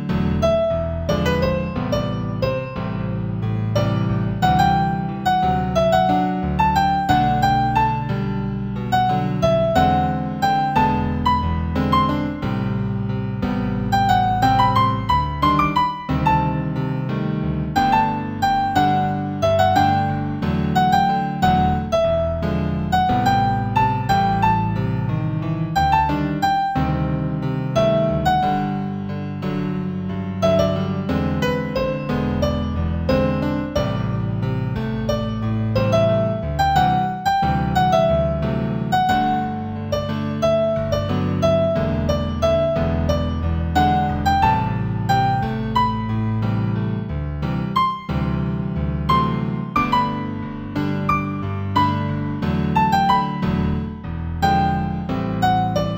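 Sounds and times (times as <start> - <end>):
gentle piano piece: 0.0 - 55.9.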